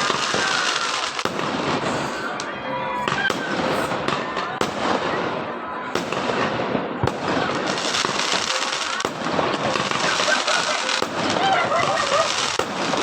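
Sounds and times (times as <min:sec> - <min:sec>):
sharp firework bangs: 0:00.0 - 0:02.5, 0:03.1 - 0:13.0
firecrackers crackling: 0:00.0 - 0:13.0.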